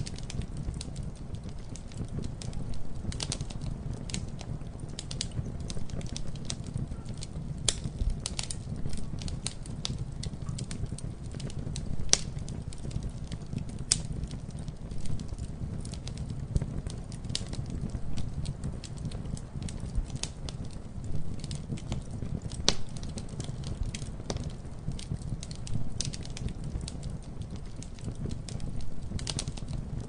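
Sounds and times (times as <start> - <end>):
campfire flames rumbling: 0.0 - 30.0
wood crackling and popping: 0.0 - 30.0.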